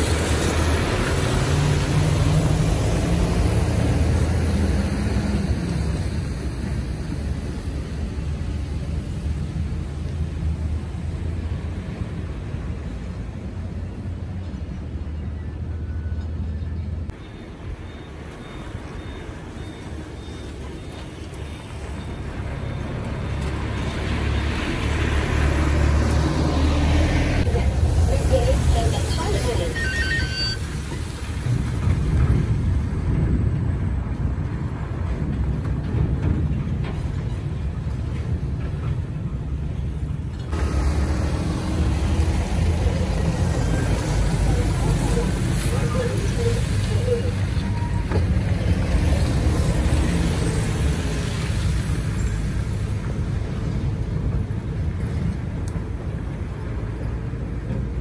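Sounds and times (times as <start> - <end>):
diesel truck engine: 0.0 - 58.0
truck tyre noise: 0.0 - 58.0.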